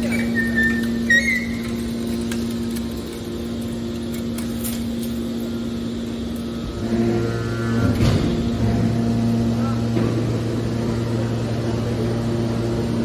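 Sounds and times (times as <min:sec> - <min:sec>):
baling machinery humming: 0:00.0 - 0:13.0
deeper loud hum: 0:00.0 - 0:13.0.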